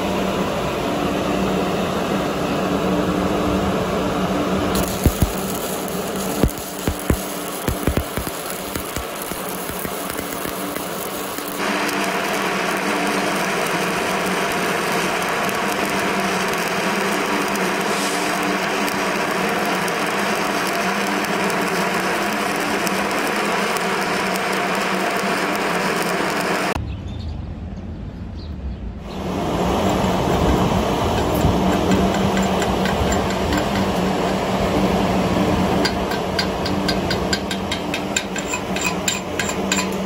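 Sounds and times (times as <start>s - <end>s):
welding arc crackling and hissing: 2.0s - 26.8s, 29.0s - 40.0s.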